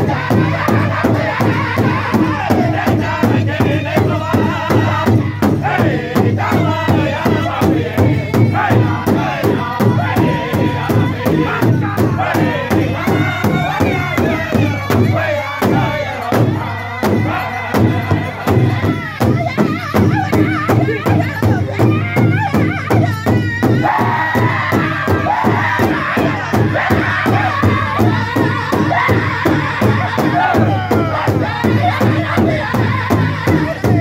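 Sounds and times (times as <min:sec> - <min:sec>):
bass drum beating: 0:00.0 - 0:34.0
voices singing in unison: 0:00.0 - 0:34.0.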